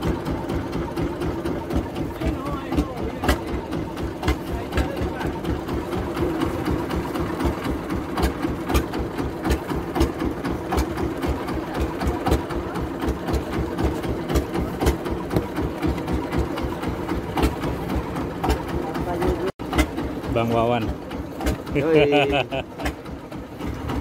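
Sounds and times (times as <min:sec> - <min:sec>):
boat engine chugging: 0:00.0 - 0:24.0.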